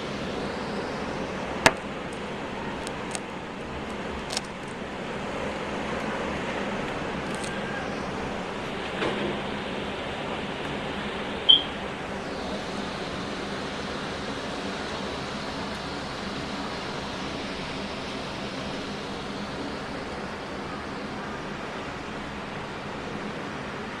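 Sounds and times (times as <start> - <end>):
rain: 0.0 - 24.0
wind: 0.0 - 24.0.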